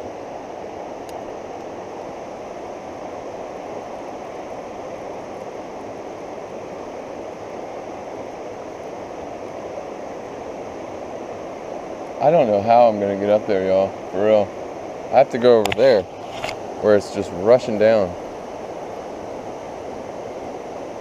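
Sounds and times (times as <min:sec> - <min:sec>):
rushing floodwater in creek: 0:00.0 - 0:21.0.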